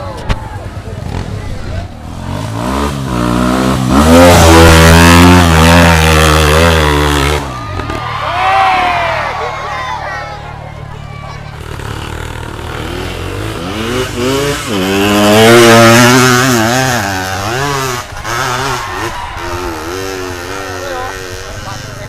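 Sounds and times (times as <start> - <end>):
motorcycle engine revving: 0.6 - 9.2, 10.6 - 22.0.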